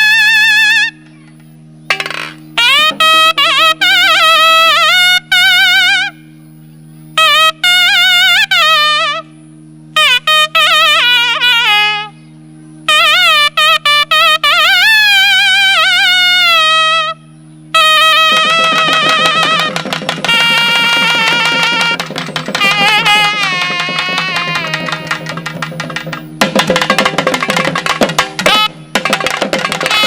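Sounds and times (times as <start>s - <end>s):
nadaswaram melody: 0.0s - 17.2s, 17.8s - 30.0s
steady drone: 0.0s - 30.0s.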